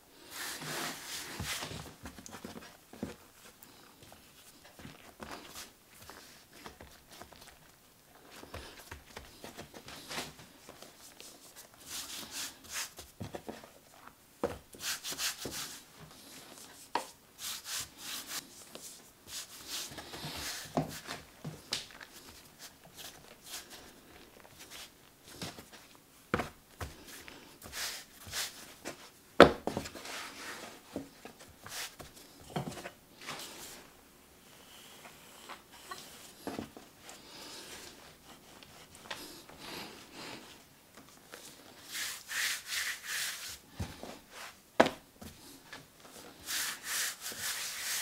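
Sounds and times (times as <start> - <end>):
hands rubbing dough: 0.2 - 29.2, 29.8 - 32.3, 34.8 - 44.7, 46.1 - 48.0.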